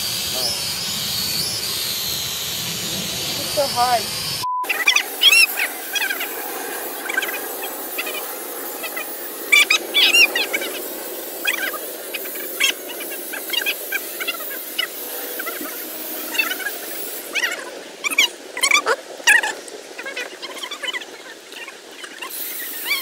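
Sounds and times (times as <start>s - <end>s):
toy drone propellers buzzing: 0.0s - 23.0s
high-pitched chirping: 0.4s - 19.5s.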